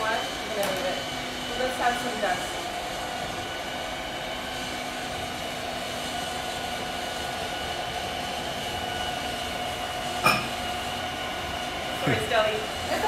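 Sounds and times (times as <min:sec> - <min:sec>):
stand mixer motor whine: 0:00.0 - 0:13.0.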